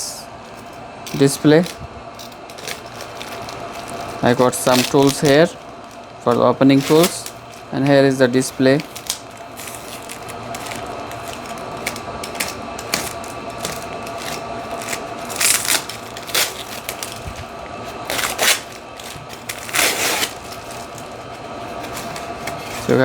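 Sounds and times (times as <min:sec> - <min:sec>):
faint steady hum: 0:00.0 - 0:23.0
packaging rustling and crinkling: 0:00.4 - 0:23.0.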